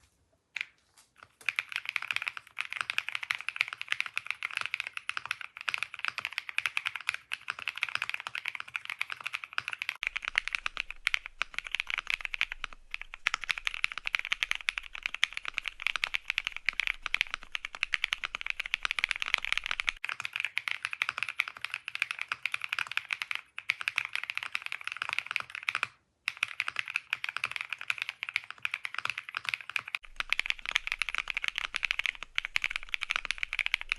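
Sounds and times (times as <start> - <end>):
fast typing on mechanical keyboard: 1.2 - 33.9.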